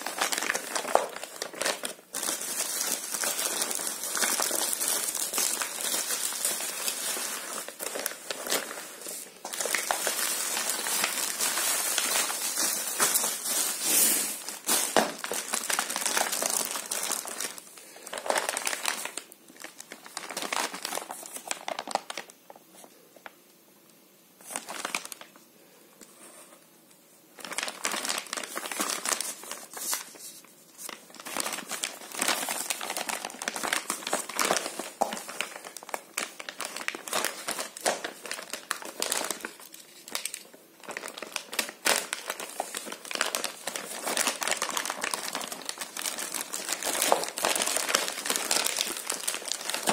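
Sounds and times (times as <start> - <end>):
plastic bags crinkling: 0.0 - 22.9, 24.4 - 25.4, 27.4 - 49.9.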